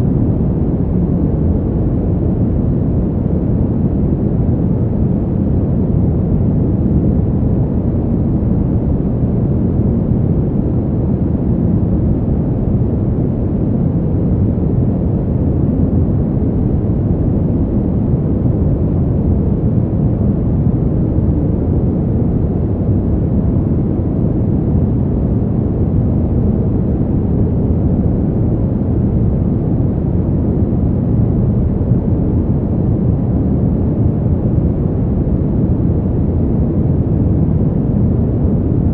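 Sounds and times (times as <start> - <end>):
brown noise rumble: 0.0 - 38.9.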